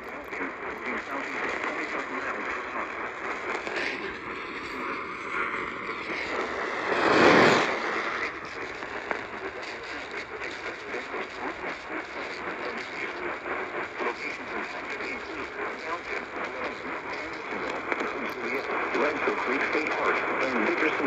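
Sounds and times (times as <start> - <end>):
loud static burst: 0.0 - 21.0
radio static hiss and crackle: 0.0 - 21.0.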